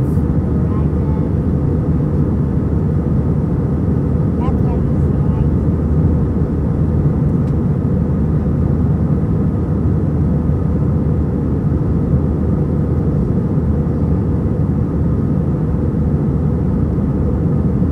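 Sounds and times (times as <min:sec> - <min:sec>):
jet engine cabin rumble: 0:00.0 - 0:17.9.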